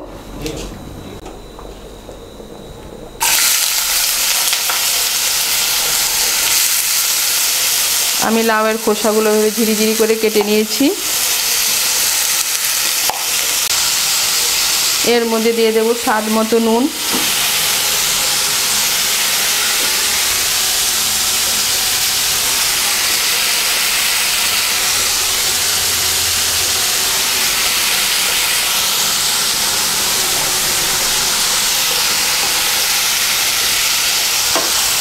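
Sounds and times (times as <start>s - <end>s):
vegetable peel sizzling in oil: 3.2s - 35.0s.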